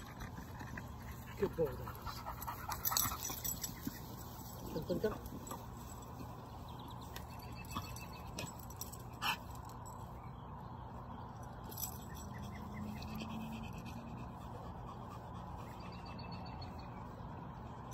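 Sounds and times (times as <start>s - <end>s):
low outdoor background noise: 0.0s - 17.9s.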